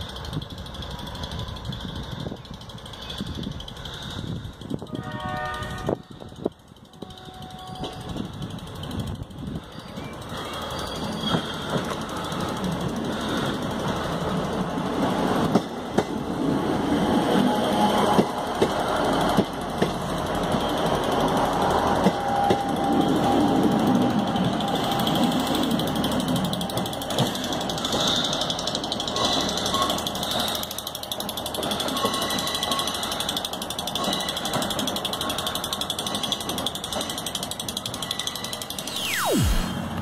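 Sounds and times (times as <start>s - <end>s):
train engines clattering: 0.0s - 38.8s.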